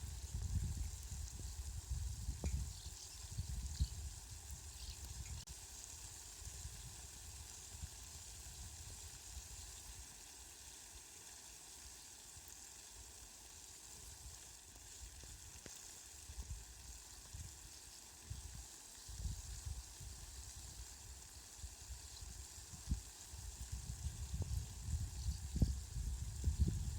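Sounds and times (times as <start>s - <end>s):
steady rain hiss: 0.0s - 26.9s.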